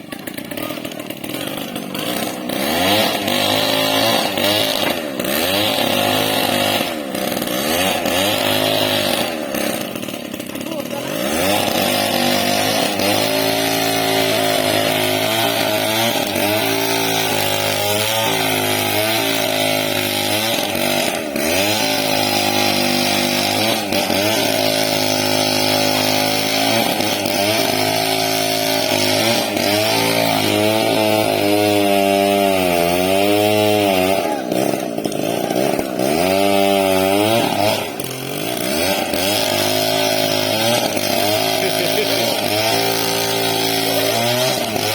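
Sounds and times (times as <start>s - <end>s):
chainsaw cutting log: 0.0s - 44.9s.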